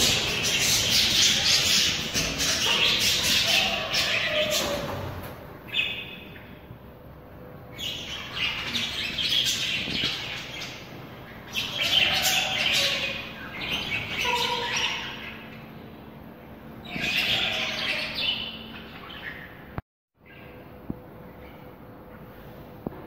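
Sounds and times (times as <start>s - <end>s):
birds chirping: 0.0s - 22.3s.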